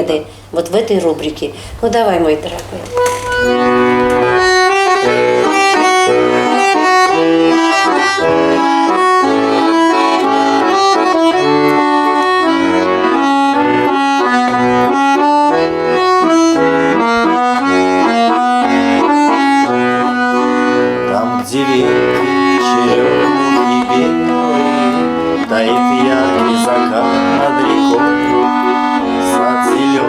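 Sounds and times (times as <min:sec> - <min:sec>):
button accordion playing: 0:01.1 - 0:30.0.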